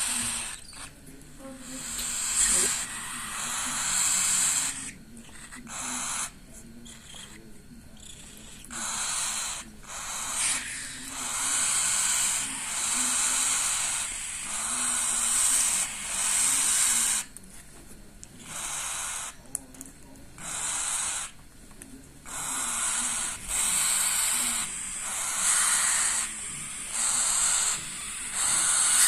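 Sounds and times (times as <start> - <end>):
parrot chicks hissing: 0.0 - 1.0, 1.6 - 17.4, 18.4 - 19.6, 20.4 - 21.4, 22.2 - 29.0.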